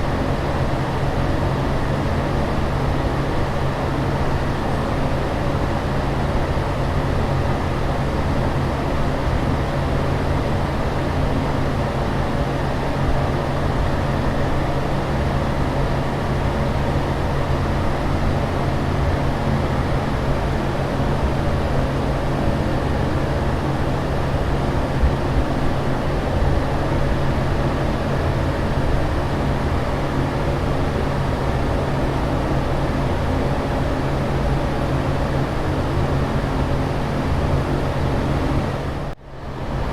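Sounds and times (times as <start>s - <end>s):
airliner cabin drone: 0.0s - 39.9s
constant low hum: 0.0s - 39.9s.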